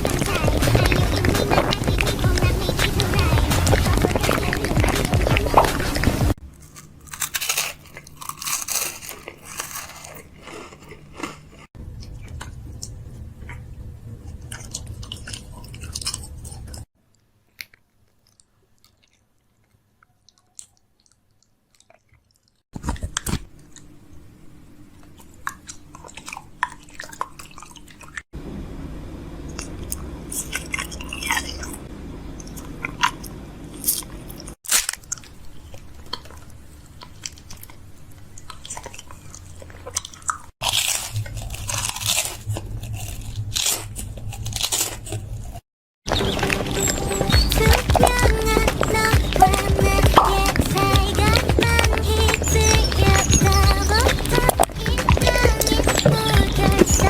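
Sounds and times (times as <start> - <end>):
crunchy chewing and biting: 0.0 - 24.1, 24.8 - 28.2, 29.5 - 57.0.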